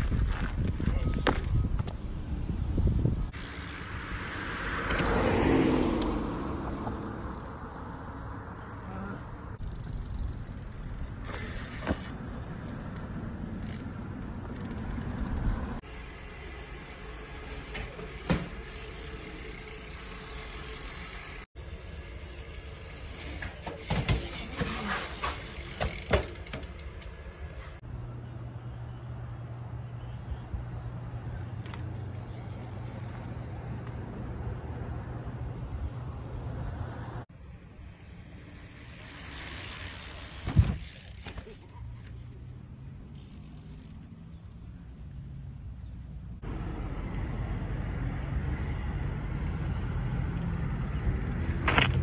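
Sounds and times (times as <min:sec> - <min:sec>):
bike tyres rolling on pavement: 0:00.0 - 0:27.3, 0:27.9 - 0:52.0.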